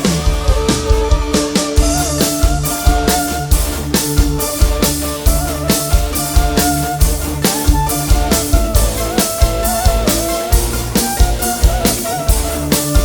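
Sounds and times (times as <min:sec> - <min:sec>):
instrumental band music: 0:00.0 - 0:13.0.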